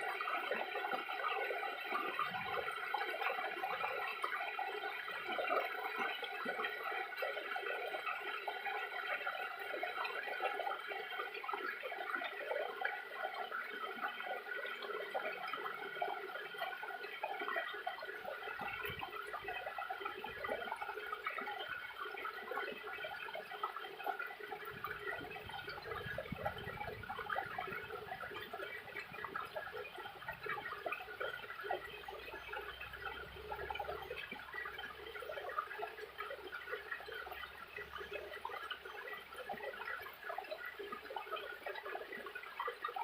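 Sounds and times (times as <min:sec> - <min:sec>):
small waterfall splashing: 0:00.0 - 0:43.0.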